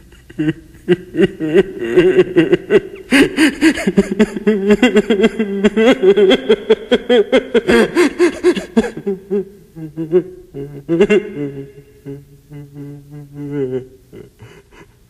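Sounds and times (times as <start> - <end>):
people laughing: 0.4 - 15.0.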